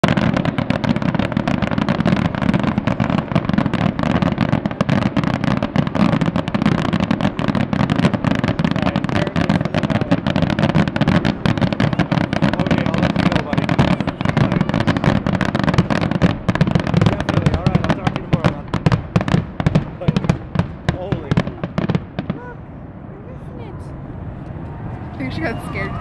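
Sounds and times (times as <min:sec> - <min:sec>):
fireworks bangs and crackles: 0:00.0 - 0:22.6.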